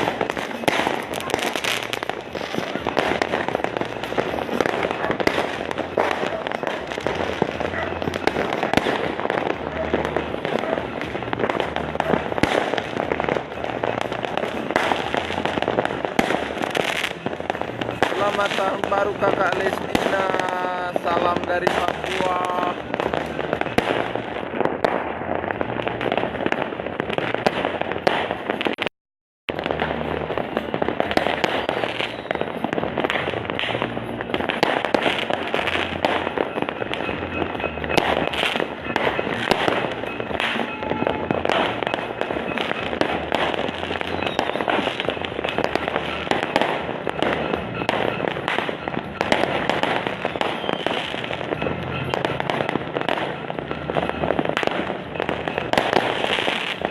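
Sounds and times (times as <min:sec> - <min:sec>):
fireworks cracking and banging: 0:00.0 - 0:28.9, 0:29.5 - 0:56.9.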